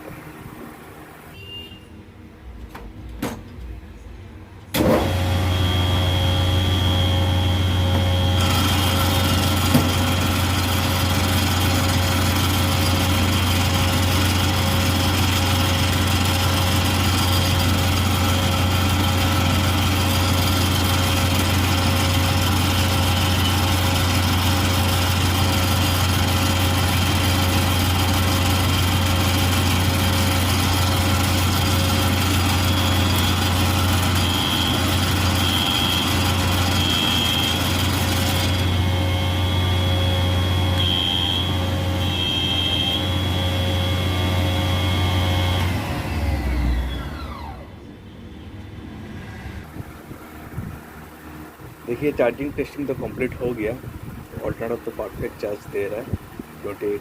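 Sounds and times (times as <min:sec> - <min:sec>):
alternator humming with high whine: 0:00.0 - 0:57.0.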